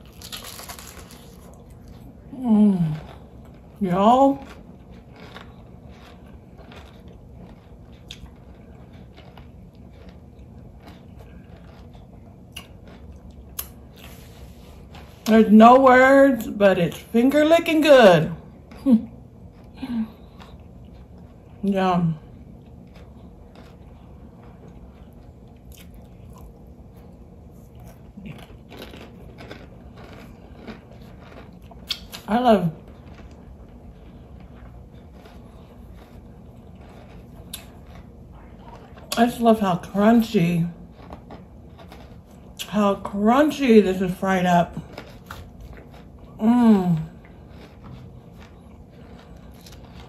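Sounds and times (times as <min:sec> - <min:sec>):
chewing crisp fried fish: 0:00.0 - 0:15.3, 0:22.2 - 0:39.5, 0:40.2 - 0:42.7, 0:44.7 - 0:50.0.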